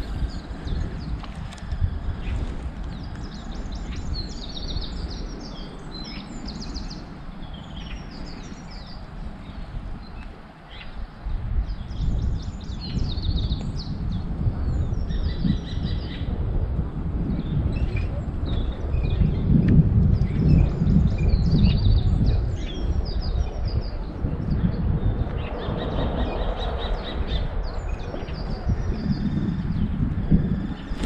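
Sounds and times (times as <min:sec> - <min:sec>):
songbirds chirping: 0:00.0 - 0:16.4, 0:17.2 - 0:31.0
steady low rumble: 0:00.0 - 0:31.0.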